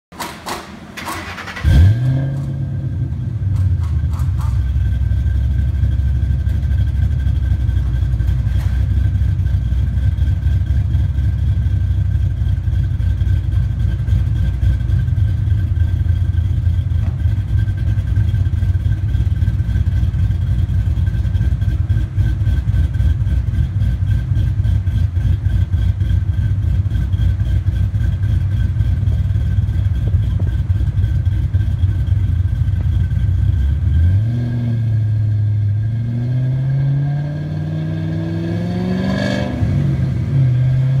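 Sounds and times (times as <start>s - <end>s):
car engine idling: 0.2s - 34.3s.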